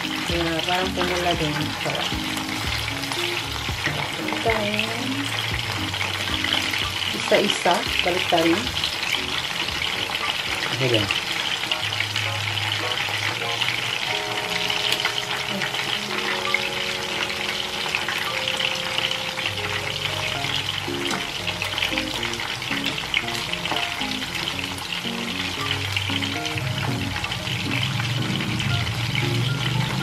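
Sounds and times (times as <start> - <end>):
chicken frying in oil: 0.0 - 30.0
soft background music: 0.0 - 30.0.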